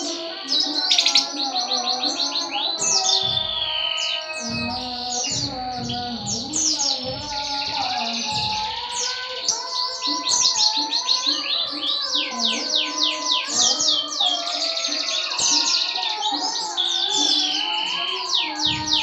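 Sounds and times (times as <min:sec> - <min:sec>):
background music: 0:00.0 - 0:19.0
canary song trills: 0:00.0 - 0:19.0.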